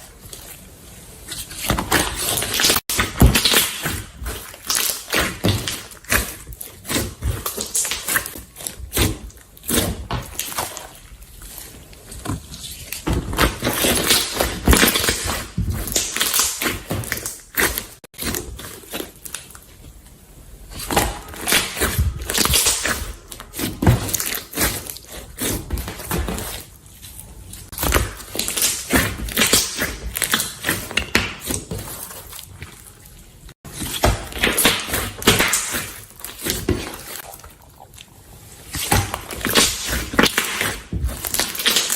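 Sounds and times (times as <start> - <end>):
slime squelching and crackling: 0.0 - 41.9.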